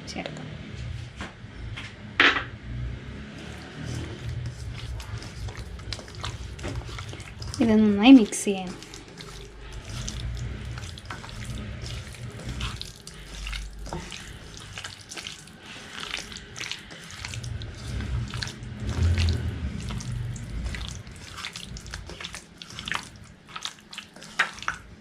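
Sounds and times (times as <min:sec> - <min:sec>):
low rumble: 0:00.0 - 0:14.9, 0:15.6 - 0:22.2
wet squelches of mixing: 0:02.9 - 0:25.0.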